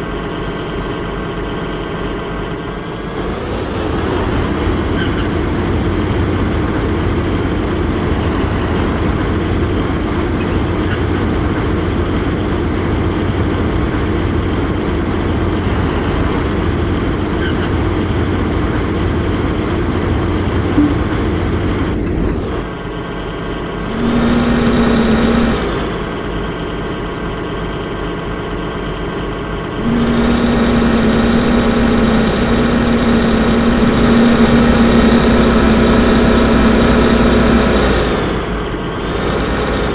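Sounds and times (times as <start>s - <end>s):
excavator engine running: 2.2s - 23.0s, 23.7s - 25.9s, 29.8s - 39.9s.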